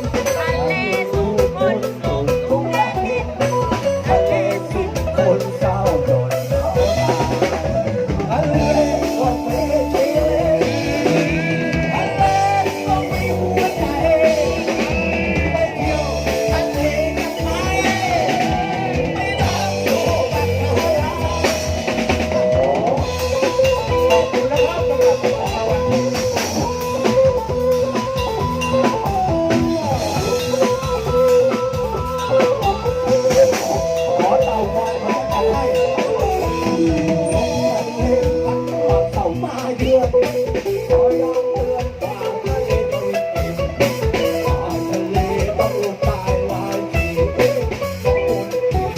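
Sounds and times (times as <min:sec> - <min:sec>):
brass band playing: 0:00.0 - 0:48.9
drum kit beat with rimshots: 0:00.0 - 0:48.9.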